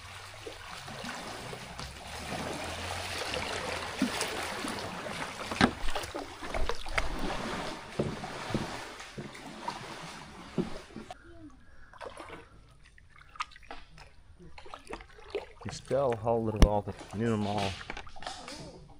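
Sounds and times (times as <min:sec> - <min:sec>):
paddle splashing in water: 0:00.0 - 0:11.2, 0:11.8 - 0:18.8.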